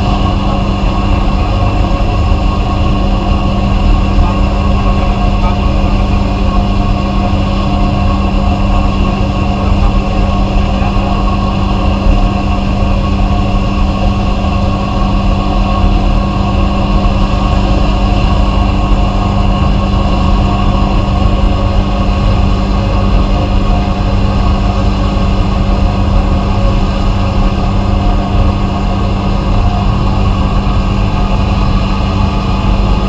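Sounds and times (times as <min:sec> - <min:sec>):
blasting machine hum and hiss: 0:00.0 - 0:33.0.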